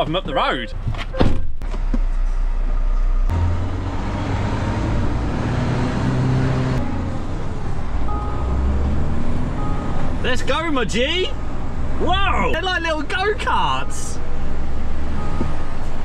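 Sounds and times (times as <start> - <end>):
road noise: 0.0 - 16.0
truck diesel engine: 1.6 - 16.0.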